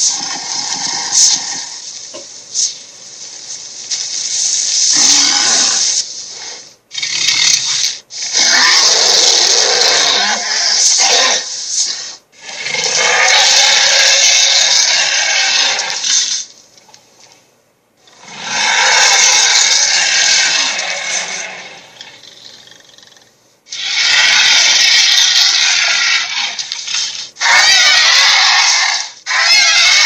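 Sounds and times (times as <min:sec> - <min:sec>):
harsh raspy monster screeching: 0:00.0 - 0:01.8, 0:04.8 - 0:16.4, 0:18.1 - 0:30.0.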